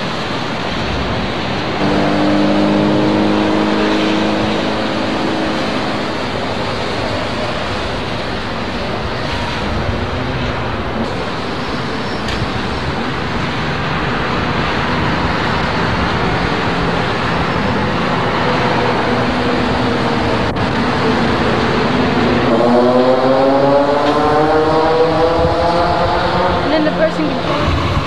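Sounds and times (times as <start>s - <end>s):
car engine accelerating: 0.0s - 28.0s
race car engines: 0.0s - 28.0s.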